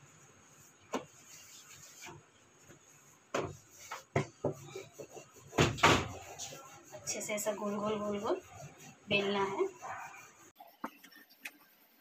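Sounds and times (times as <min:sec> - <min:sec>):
rolling pin rubbing dough: 0:00.0 - 0:10.6.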